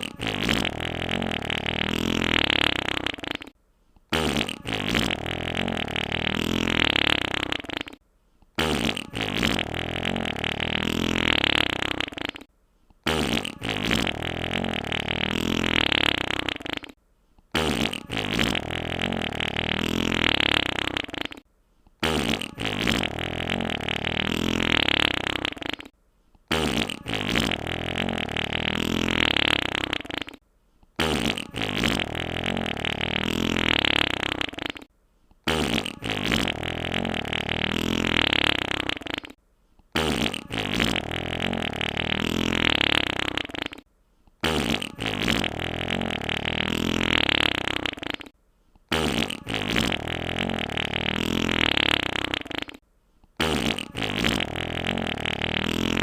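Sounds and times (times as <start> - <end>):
long wet fart: 0.0 - 8.0, 8.6 - 30.4, 31.0 - 52.8, 53.4 - 56.0.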